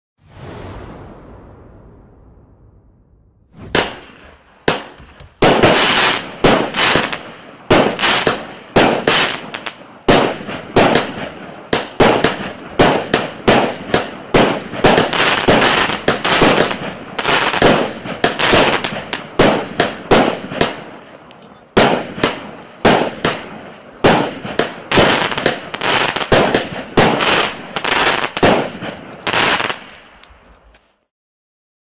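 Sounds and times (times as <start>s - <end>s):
firework shots firing: 3.5s - 30.3s.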